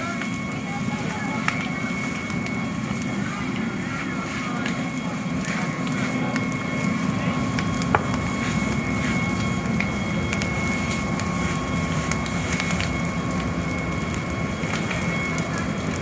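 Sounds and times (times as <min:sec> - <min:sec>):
large fire crackling and popping: 0:00.0 - 0:16.0.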